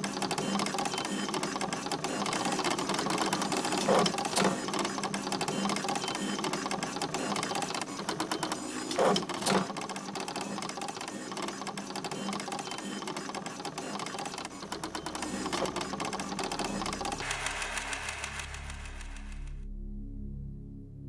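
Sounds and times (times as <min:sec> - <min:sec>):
typewriter clattering: 0:00.0 - 0:19.4.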